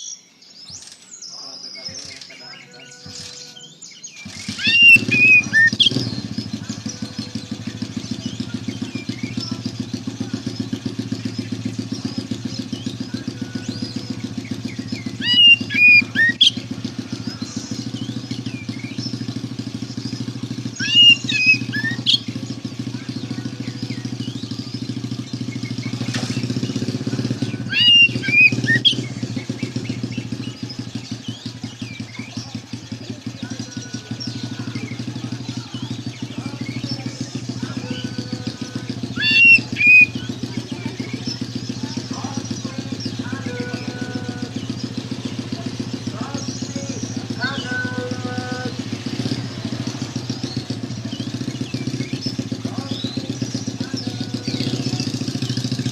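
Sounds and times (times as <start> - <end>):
bird singing whistled phrases: 0.0 - 55.9.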